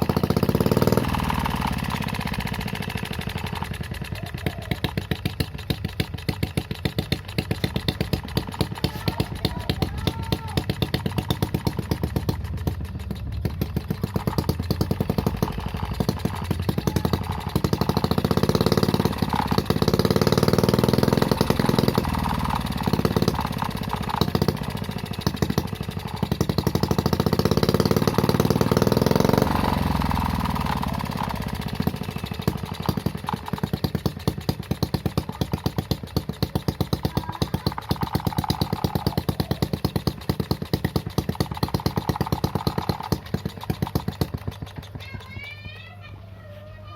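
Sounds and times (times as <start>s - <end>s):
small engine revving and idling: 0.0s - 46.9s.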